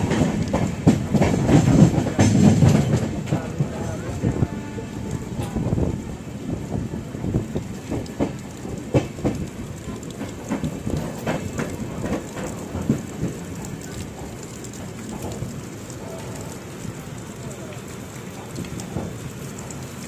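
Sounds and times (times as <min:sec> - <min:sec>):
rain: 0:00.0 - 0:20.0
train running noise: 0:00.0 - 0:20.0.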